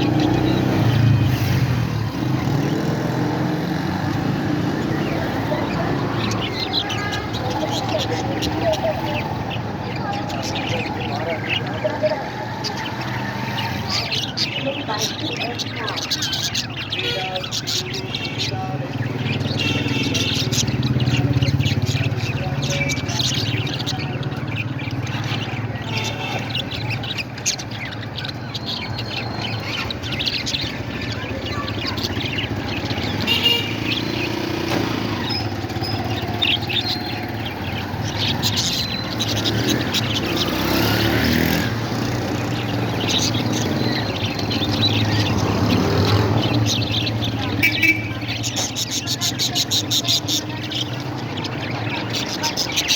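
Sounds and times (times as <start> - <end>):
parrots chirping and calling: 0.0 - 52.9.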